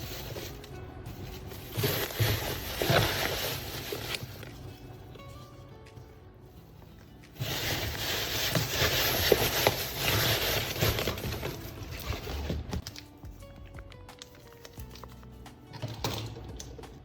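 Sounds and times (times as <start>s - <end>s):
paper rustling and crinkling: 0.0s - 6.2s, 6.8s - 15.4s.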